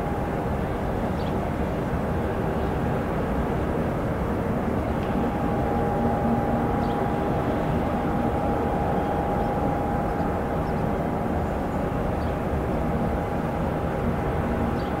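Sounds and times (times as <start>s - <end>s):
ambient rumble: 0.0s - 15.0s
mid-pitched hum: 0.0s - 15.0s.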